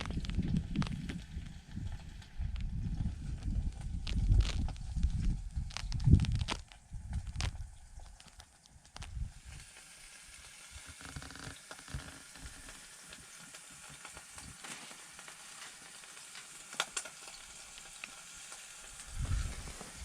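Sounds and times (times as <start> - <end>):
meat sizzling and popping: 0.0 - 20.0.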